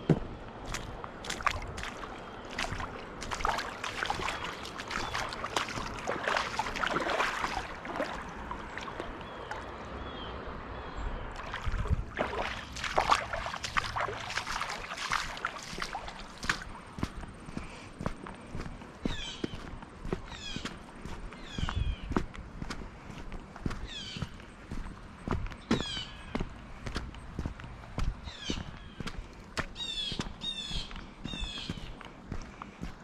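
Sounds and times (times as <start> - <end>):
footsteps wading through water: 0.0 - 9.9, 11.3 - 33.0.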